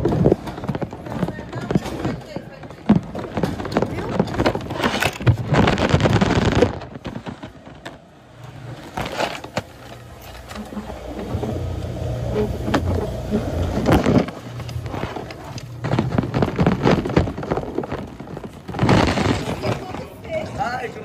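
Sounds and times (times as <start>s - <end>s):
conveyor humming: 0.0s - 21.0s
rubbing and scraping on microphone: 0.0s - 21.0s.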